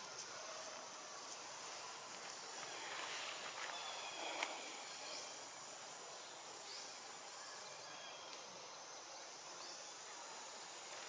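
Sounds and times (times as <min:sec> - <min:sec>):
forest ambience hiss: 0:00.0 - 0:11.0.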